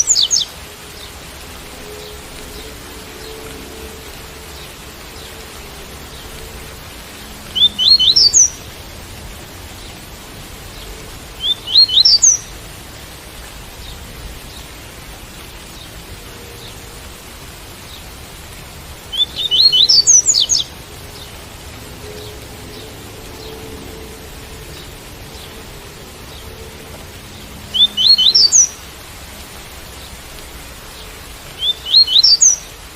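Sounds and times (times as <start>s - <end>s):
rain hiss: 0.0s - 32.9s.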